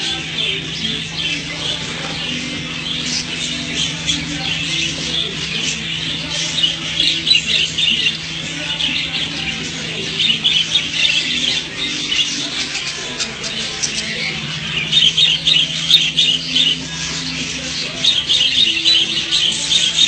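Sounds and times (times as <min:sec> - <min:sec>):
caged birds chattering and squawking: 0:00.0 - 0:20.0
steady low hum: 0:00.0 - 0:20.0.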